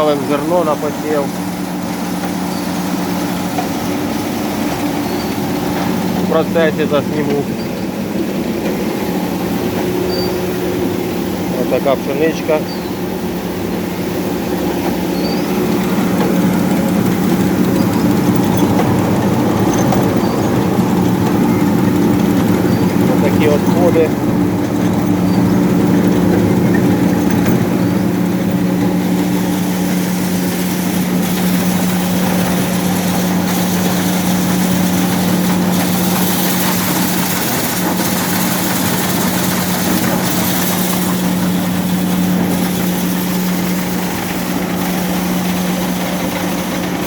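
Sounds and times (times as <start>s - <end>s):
machine humming: 0.0s - 47.0s.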